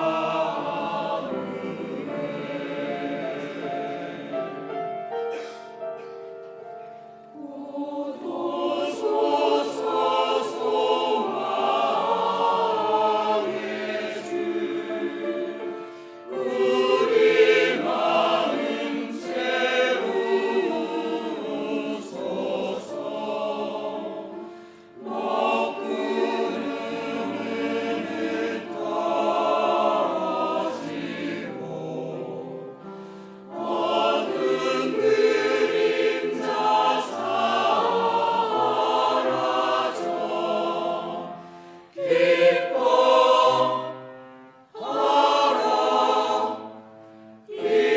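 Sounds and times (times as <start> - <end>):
church choir singing: 0.0 - 47.9.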